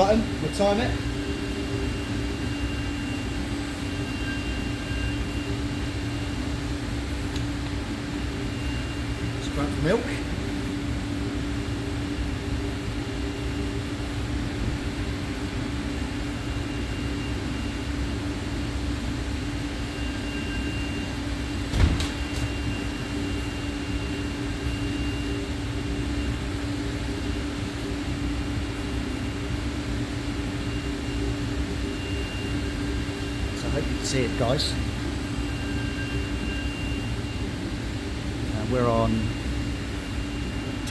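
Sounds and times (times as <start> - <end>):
machine mechanical drone: 0.0 - 40.9.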